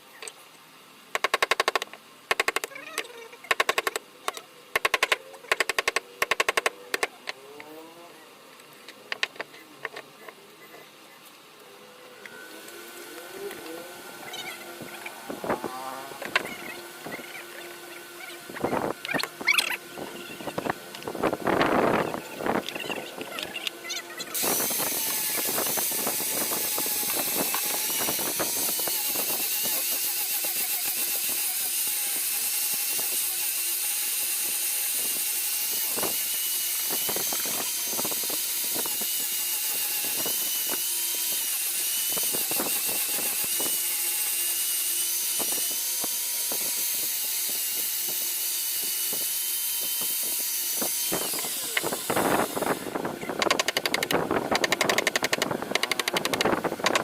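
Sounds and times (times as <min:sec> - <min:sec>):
power tool whining: 0:01.2 - 0:57.0.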